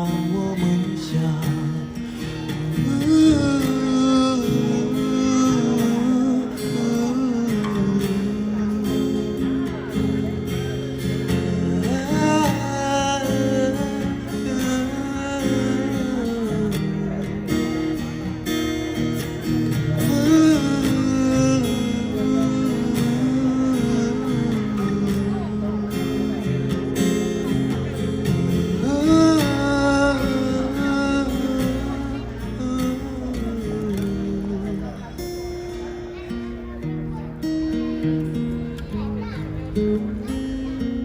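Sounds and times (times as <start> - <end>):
pop ballad with acoustic guitar: 0.0 - 41.0.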